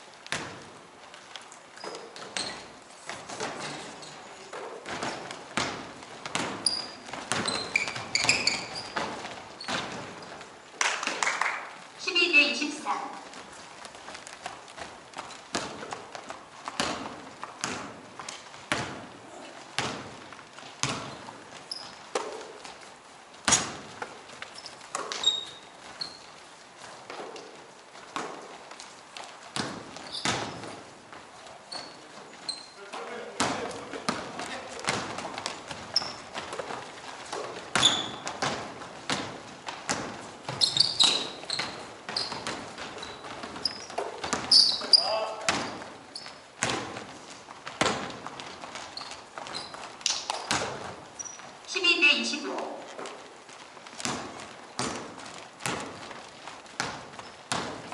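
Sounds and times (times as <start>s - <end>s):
basketball bouncing on hardwood floor: 0.2s - 0.8s, 1.8s - 10.6s, 13.2s - 26.2s, 26.8s - 32.6s, 33.4s - 51.6s, 52.8s - 57.9s
sneaker squeaks: 0.3s - 10.7s, 12.0s - 57.9s.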